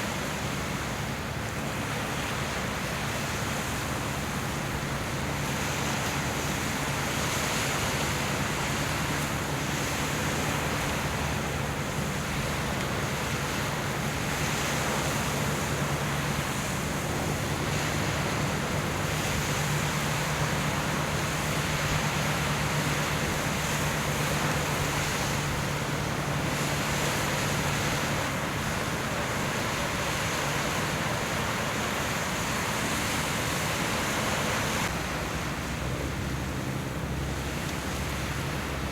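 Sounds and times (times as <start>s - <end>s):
boat engine hum: 0.0s - 38.9s
sea noise: 0.0s - 38.9s
wind: 0.0s - 38.9s.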